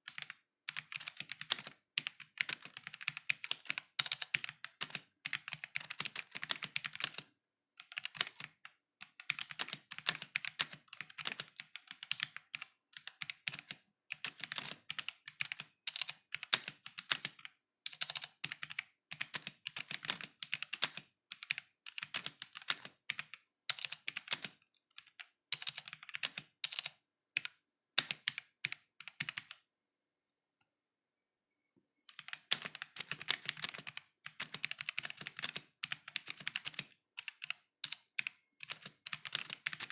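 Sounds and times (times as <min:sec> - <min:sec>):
mechanical keyboard typing: 0:00.0 - 0:29.6, 0:32.1 - 0:39.9.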